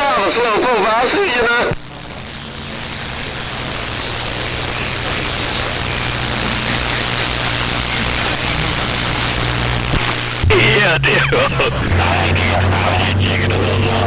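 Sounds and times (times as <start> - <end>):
radio static: 0.0 - 14.0
low hum: 1.8 - 14.0.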